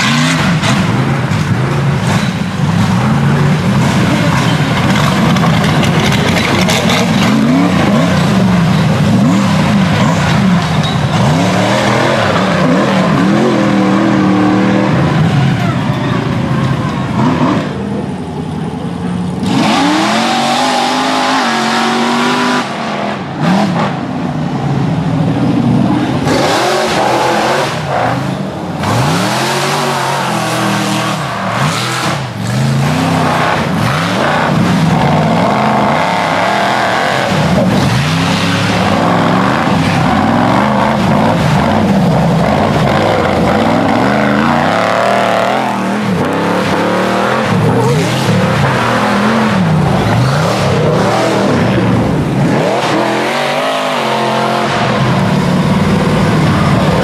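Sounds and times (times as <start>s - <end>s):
buggy engine revving hard: 0.0s - 57.0s.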